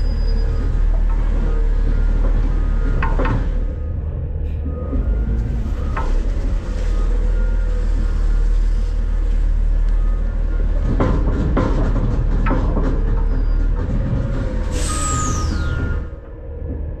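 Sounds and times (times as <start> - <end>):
garbage truck engine rumbling: 0.0 - 17.0.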